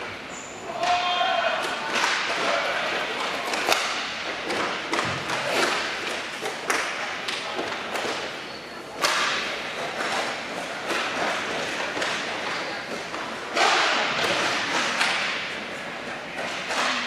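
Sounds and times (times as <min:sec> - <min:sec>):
skate wheels rolling: 0:00.0 - 0:17.0
hockey sticks clacking on puck: 0:00.7 - 0:17.0.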